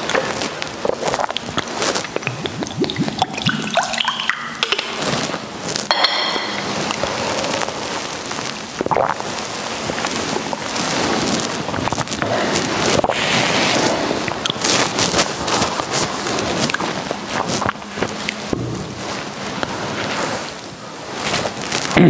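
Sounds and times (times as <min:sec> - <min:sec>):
steady noisy hiss: 0:00.0 - 0:22.0.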